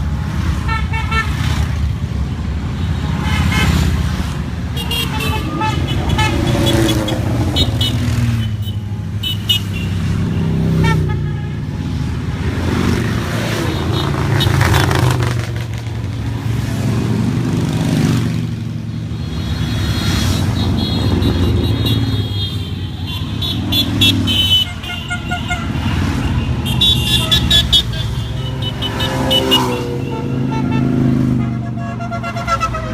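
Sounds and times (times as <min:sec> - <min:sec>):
motorcycles riding past: 0:00.0 - 0:11.0, 0:11.6 - 0:32.8
horns honking: 0:00.0 - 0:15.4, 0:18.8 - 0:32.9.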